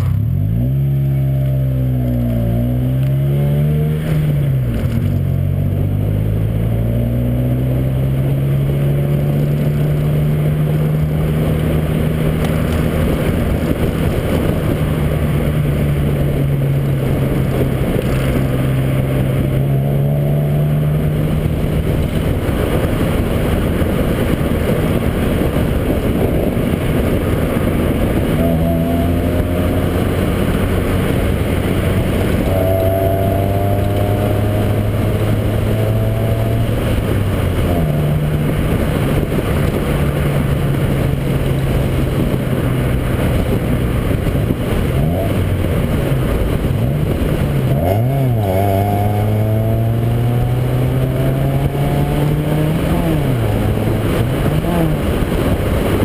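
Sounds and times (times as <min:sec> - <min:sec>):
car engine running: 0:00.0 - 0:56.0
wind noise on microphone: 0:00.0 - 0:56.0.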